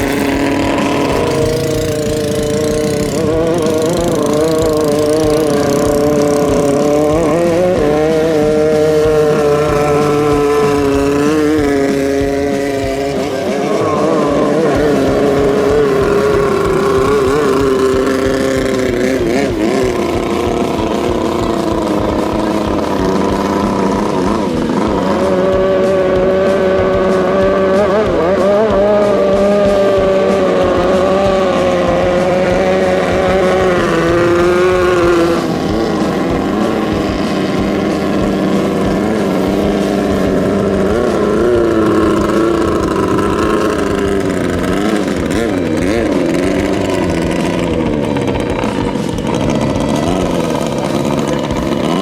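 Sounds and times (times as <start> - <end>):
speedboat engines running hard: 0.0 - 52.0.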